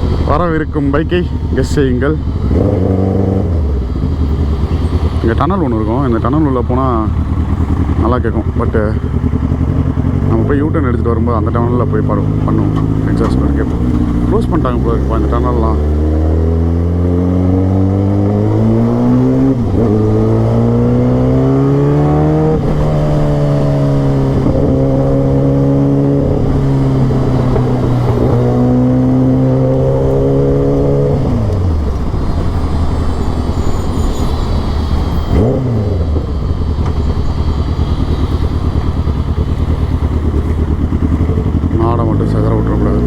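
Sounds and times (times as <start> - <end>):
motorcycle exhaust accelerating: 0.0 - 43.0.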